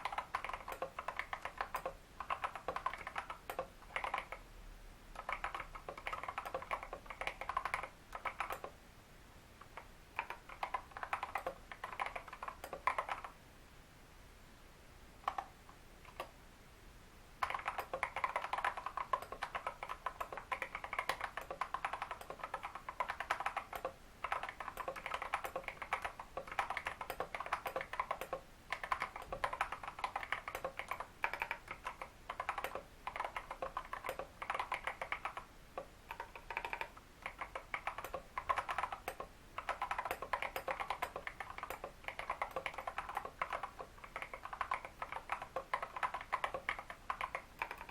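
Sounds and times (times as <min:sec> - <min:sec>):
mechanical keyboard typing: 0:00.0 - 0:04.5, 0:05.1 - 0:08.8, 0:09.6 - 0:13.4, 0:15.2 - 0:16.3, 0:17.4 - 0:47.9.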